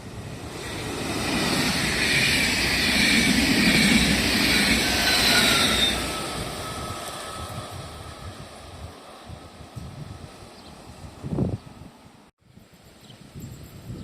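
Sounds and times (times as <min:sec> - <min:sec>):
train passing: 0:00.0 - 0:12.3.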